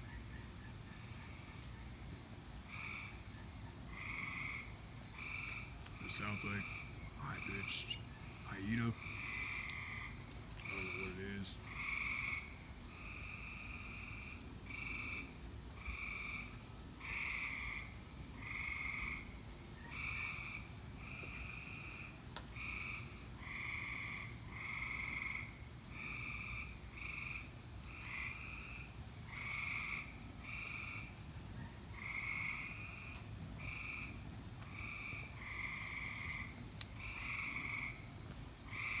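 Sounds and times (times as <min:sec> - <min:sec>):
frogs calling in chorus: 0:00.0 - 0:39.0.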